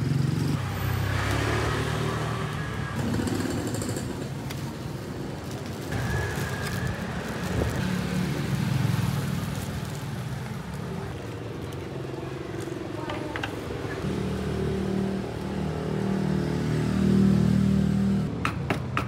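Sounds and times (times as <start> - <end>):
vehicle engines passing: 0.0 - 19.0.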